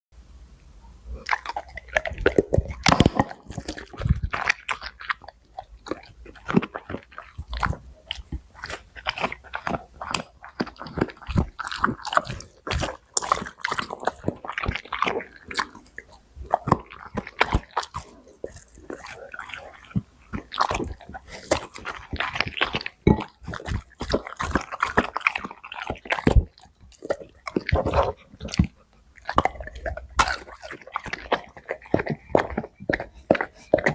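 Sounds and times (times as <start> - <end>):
dog eating and chewing: 1.1 - 33.9.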